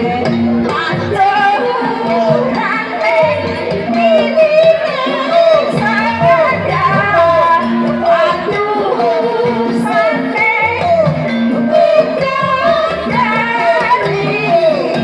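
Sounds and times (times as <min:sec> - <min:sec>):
instrumental accompaniment: 0:00.0 - 0:15.0
person singing: 0:00.0 - 0:15.0.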